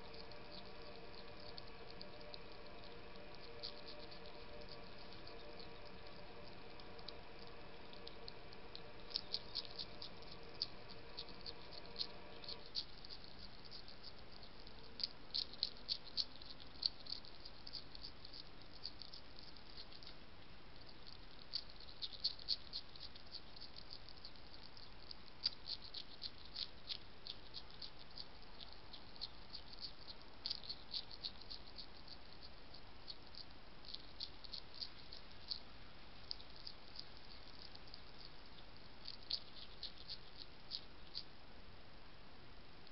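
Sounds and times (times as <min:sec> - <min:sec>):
hedgehog crunching food: 0:00.0 - 0:41.4
faint steady hum: 0:00.0 - 0:42.9.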